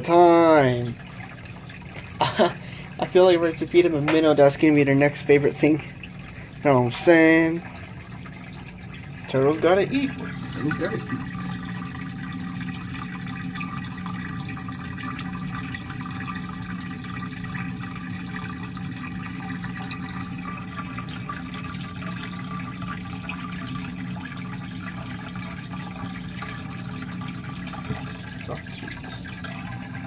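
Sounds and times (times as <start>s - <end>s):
aquarium filter water splashing: 0.0s - 30.0s.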